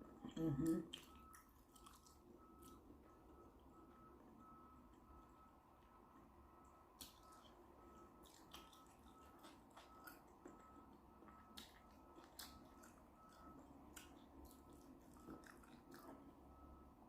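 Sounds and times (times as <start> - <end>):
low steady hum: 0.0 - 17.0
chewing and biting food: 0.6 - 5.9, 6.9 - 16.9.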